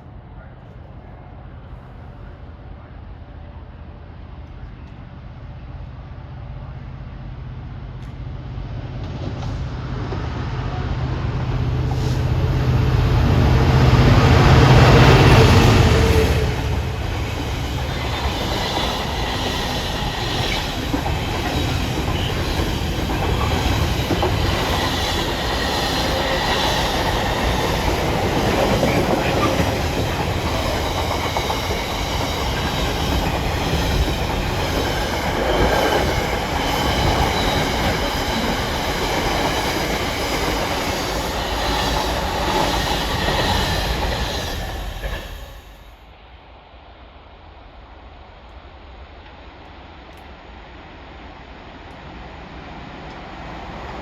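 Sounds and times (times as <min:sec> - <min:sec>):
train wheels rumbling on rails: 0:00.0 - 0:46.2.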